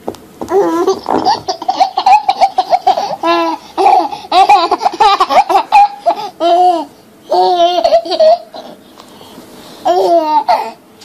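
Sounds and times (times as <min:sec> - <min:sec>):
baby laughing: 0:00.5 - 0:08.8, 0:09.8 - 0:10.8.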